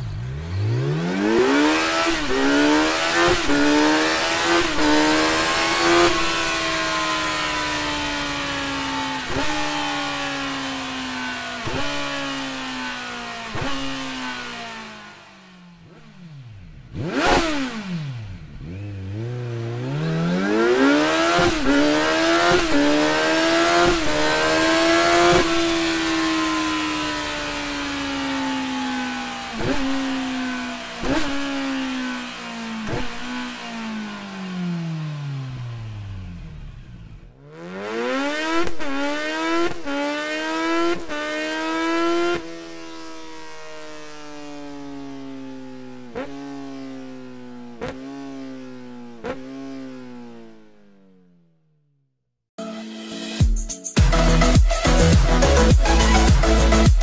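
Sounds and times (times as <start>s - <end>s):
motorcycle engine revving: 0.0s - 51.9s, 54.0s - 57.0s.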